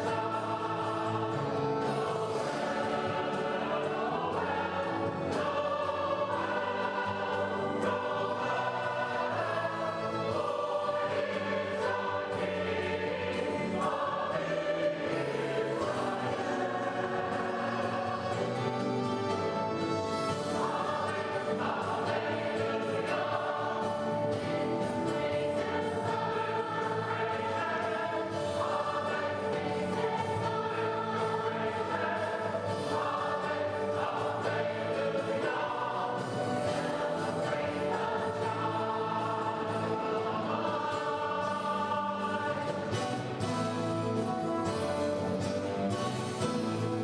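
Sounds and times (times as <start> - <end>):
choir singing with accompaniment: 0.0 - 47.0.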